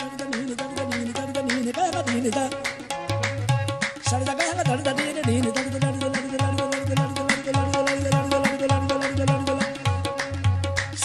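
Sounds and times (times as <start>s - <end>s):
tabla playing a rhythm: 0.0s - 11.0s.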